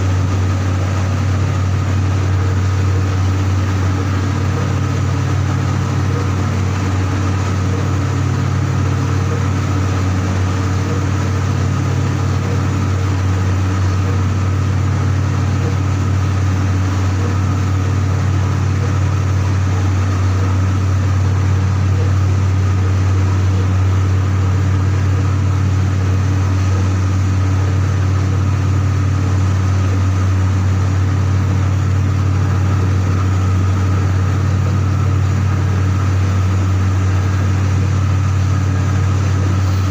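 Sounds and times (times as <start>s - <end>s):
heavy machinery humming: 0.0s - 39.9s.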